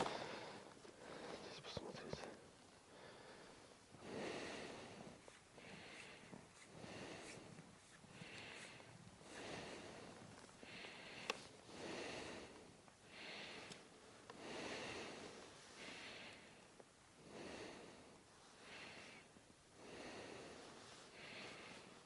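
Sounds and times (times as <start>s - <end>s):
person breathing heavily: 0.0s - 22.0s.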